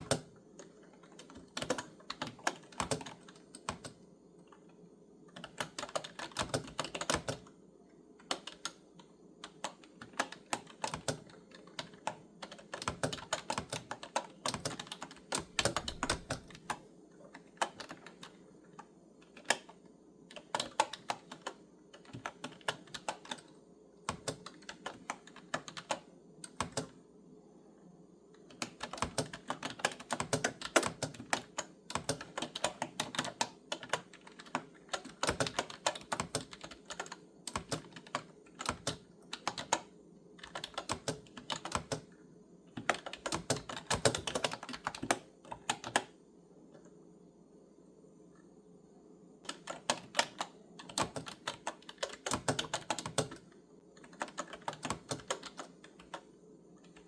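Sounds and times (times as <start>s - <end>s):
typing on clicky keyboard: 0.0s - 7.6s, 8.2s - 27.0s, 28.4s - 42.2s, 42.8s - 46.2s, 49.4s - 57.0s
faint steady hum: 0.0s - 57.0s.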